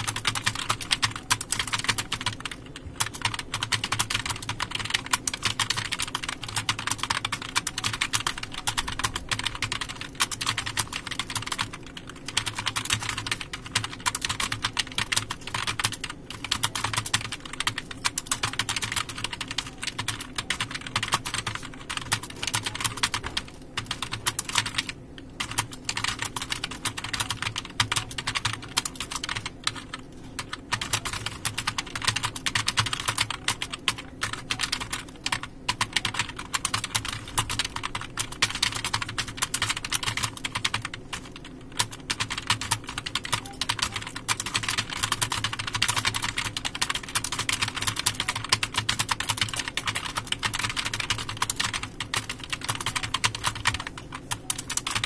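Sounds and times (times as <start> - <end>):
keyboard typing: 0.0 - 55.0
low steady hum: 0.0 - 55.0.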